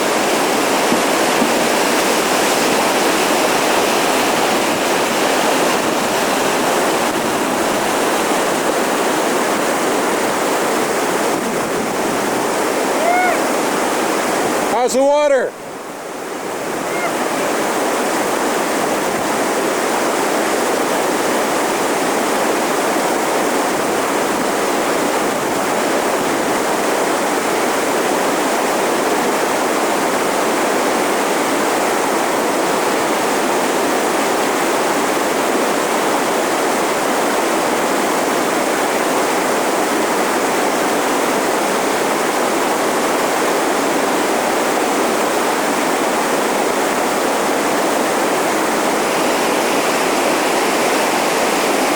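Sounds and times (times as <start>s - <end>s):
whitewater rapids rushing: 0.0s - 51.9s.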